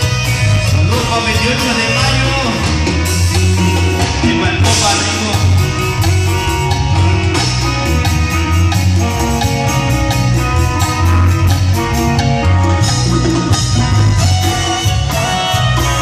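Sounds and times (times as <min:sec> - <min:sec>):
bass line: 0:00.0 - 0:16.0
live dance band playing: 0:00.0 - 0:16.0
regular drum beat: 0:00.0 - 0:16.0.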